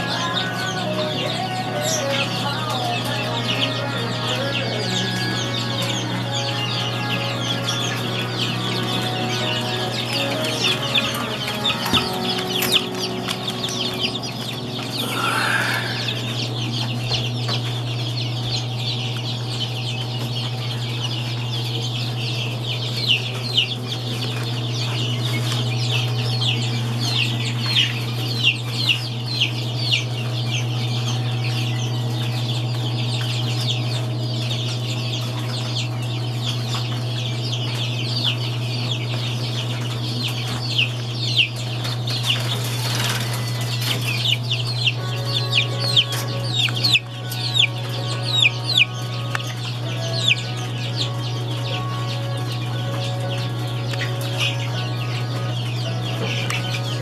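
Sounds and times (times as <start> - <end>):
chicks peeping: 0.0 - 57.0
steady low hum: 0.0 - 57.0.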